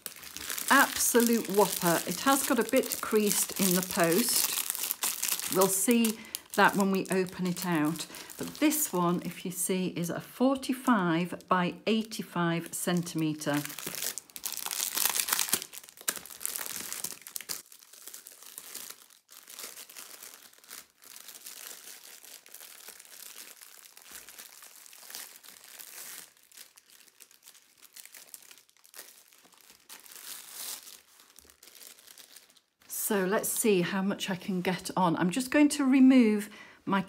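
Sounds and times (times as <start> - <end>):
plastic packaging crinkling: 0.0 - 9.3, 12.9 - 33.6.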